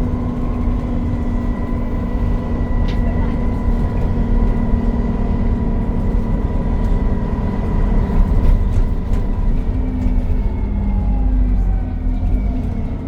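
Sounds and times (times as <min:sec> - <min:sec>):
bus cooling fan whine: 0:00.0 - 0:13.0
low engine rumble: 0:00.0 - 0:13.0.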